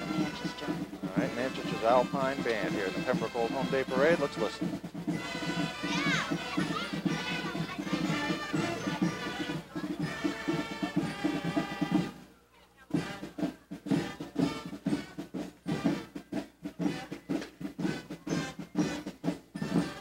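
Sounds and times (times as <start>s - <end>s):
field drums marching beat: 0.0s - 20.0s
marching band playing: 0.0s - 20.0s.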